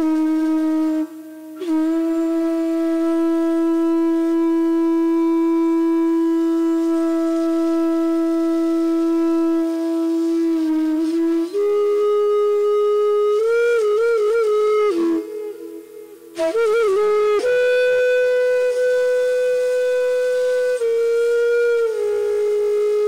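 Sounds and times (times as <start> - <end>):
bamboo flute notes: 0.0 - 23.0.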